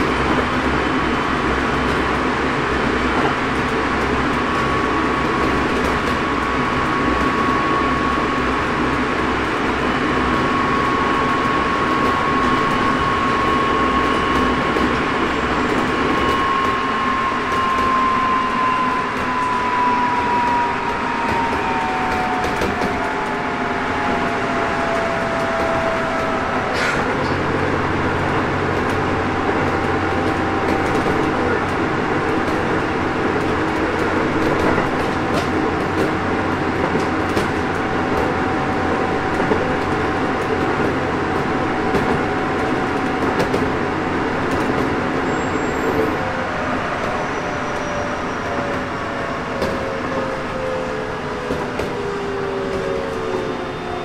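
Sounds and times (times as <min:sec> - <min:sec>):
electric train inverter whine: 0:00.0 - 0:54.0
train low hum and tone: 0:00.0 - 0:54.0.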